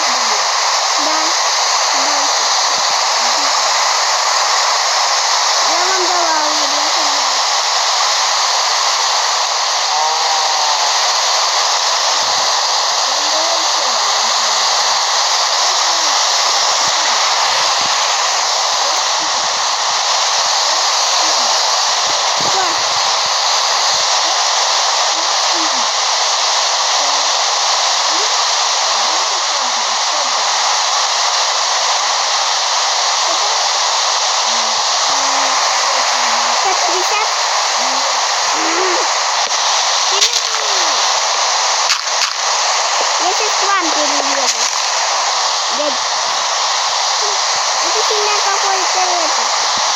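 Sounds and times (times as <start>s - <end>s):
faint voices: 0.0s - 7.7s, 8.8s - 31.4s, 33.1s - 49.9s
steady loud hiss: 0.0s - 49.9s.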